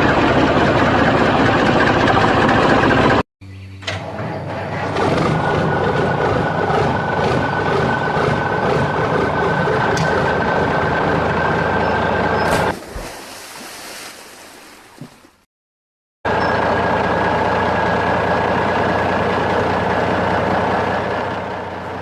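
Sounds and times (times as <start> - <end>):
vehicle engine high whine: 0.0 - 12.9, 16.3 - 22.0.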